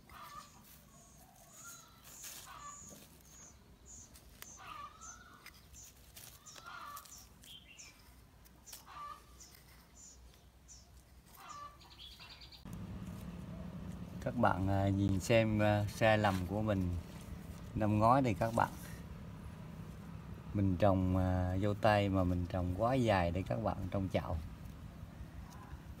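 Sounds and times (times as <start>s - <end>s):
buzzy bird trill: 0.0s - 25.9s
faint birds chirping: 0.0s - 26.0s.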